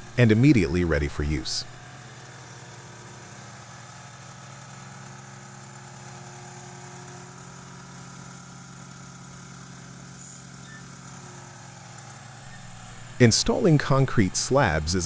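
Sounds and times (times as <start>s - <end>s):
machine engine idling: 0.0s - 15.0s.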